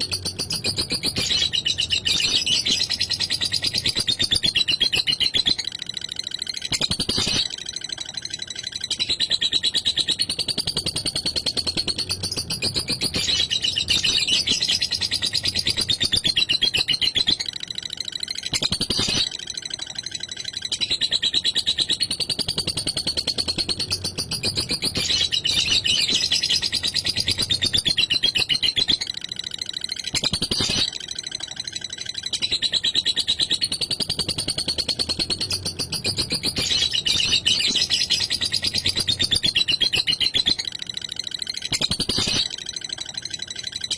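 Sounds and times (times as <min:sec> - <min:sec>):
lovebird chattering trill: 0:00.0 - 0:43.9.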